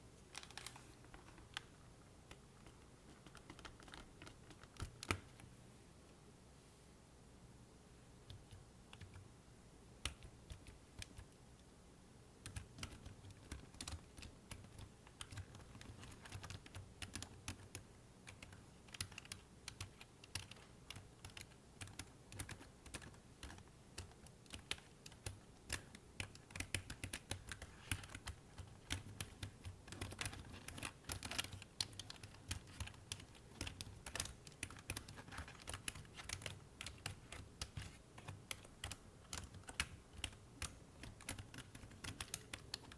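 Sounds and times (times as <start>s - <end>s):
typing on a computer keyboard: 1.5s - 5.4s, 8.3s - 9.2s, 10.0s - 11.4s, 12.4s - 42.9s.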